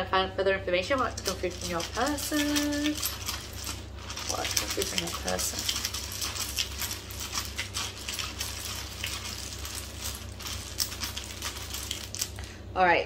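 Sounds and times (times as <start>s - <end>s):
small metal pieces clattering: 1.0s - 12.4s.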